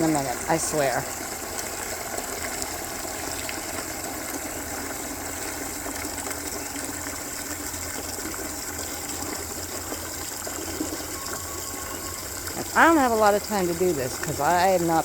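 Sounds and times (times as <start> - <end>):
water running into a bucket: 0.0 - 15.0.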